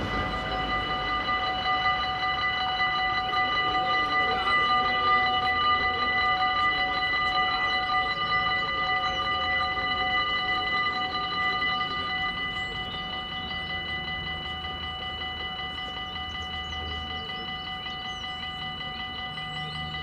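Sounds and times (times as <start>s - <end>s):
level crossing warning bells: 0.0s - 20.0s.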